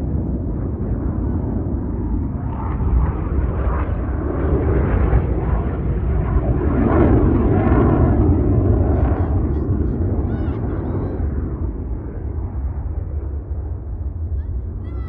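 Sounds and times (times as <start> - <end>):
jet rumble: 0.0 - 15.0.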